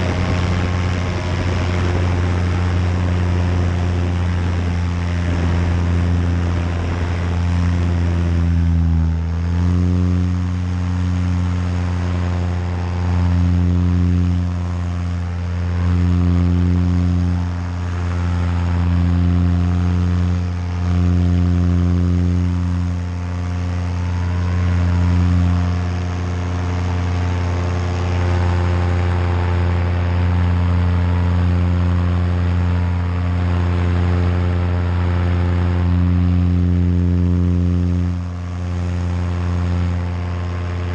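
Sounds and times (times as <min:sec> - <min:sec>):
paramotor engine running: 0:00.0 - 0:40.9.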